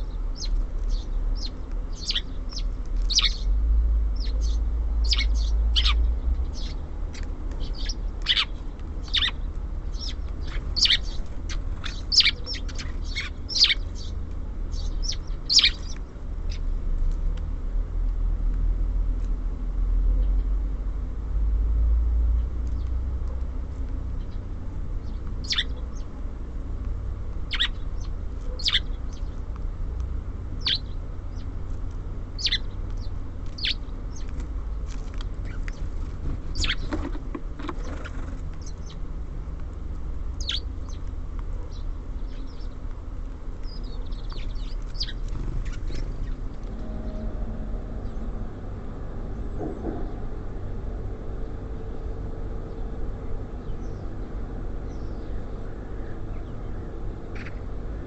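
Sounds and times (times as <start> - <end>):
songbirds chirping: 0.0 - 58.0
steady low rumble: 0.0 - 58.0.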